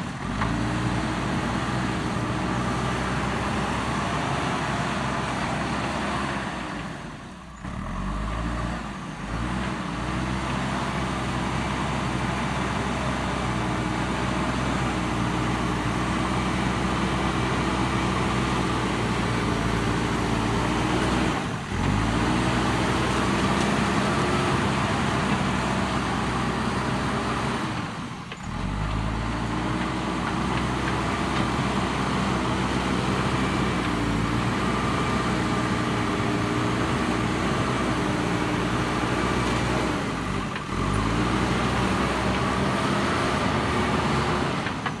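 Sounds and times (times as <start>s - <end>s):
backhoe diesel engine under load: 0.0s - 45.0s.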